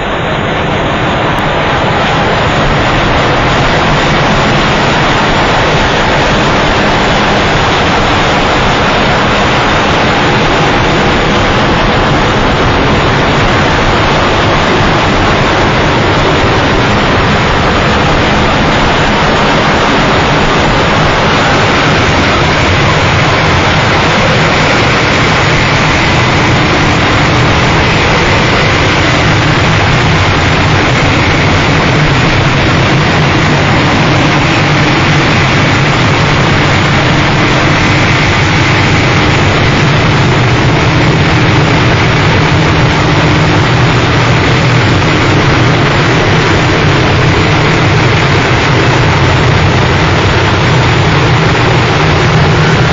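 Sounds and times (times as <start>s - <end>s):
distorted noise music: 0.0s - 52.9s
low drone: 0.0s - 52.9s.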